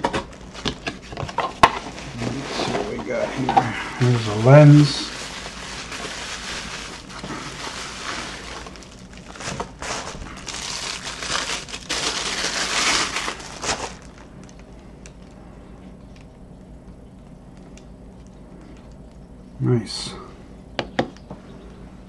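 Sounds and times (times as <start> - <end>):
bubble wrap crinkling: 0.0 - 19.3.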